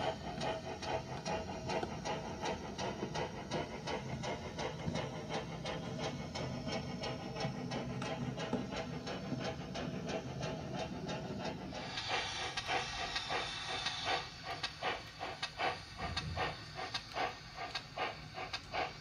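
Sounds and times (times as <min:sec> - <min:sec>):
steam chuffing from small speaker: 0:00.0 - 0:19.0
steam hiss: 0:00.0 - 0:19.0.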